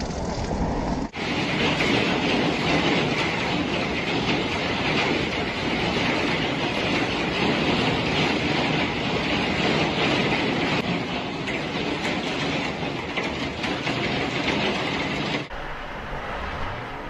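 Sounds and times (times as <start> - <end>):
storm wind blowing hard: 0.0 - 17.0.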